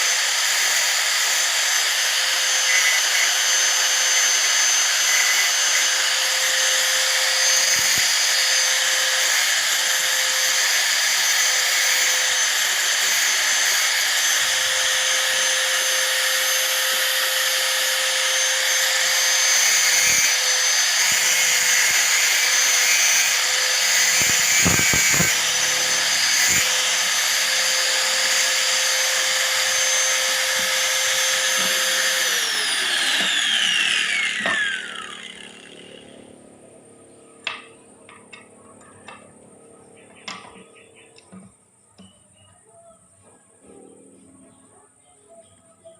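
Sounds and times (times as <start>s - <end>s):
angle grinder running: 0.0s - 39.2s.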